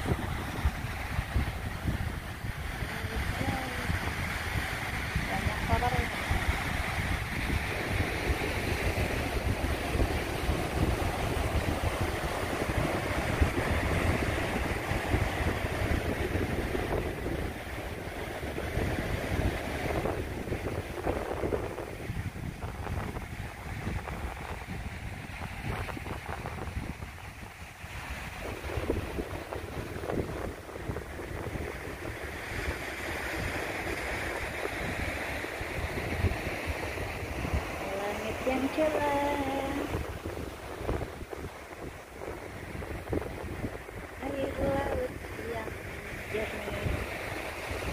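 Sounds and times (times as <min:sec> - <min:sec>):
ocean surf: 0:00.0 - 0:47.9
wind buffeting microphone: 0:00.0 - 0:47.9.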